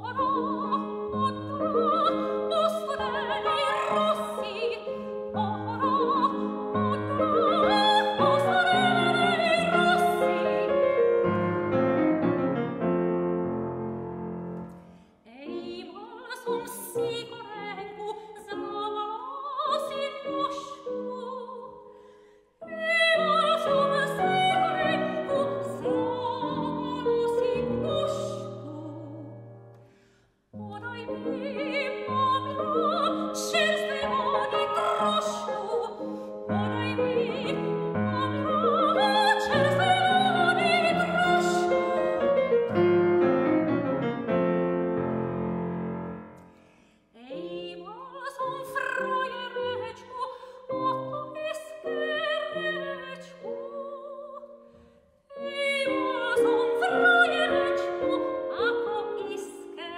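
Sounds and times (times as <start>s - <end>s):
soprano singing operatic song: 0.0s - 14.0s, 15.2s - 22.0s, 22.6s - 29.7s, 30.6s - 46.2s, 47.1s - 59.9s
grand piano accompaniment: 0.0s - 21.7s, 22.6s - 30.0s, 30.6s - 46.6s, 55.4s - 59.9s.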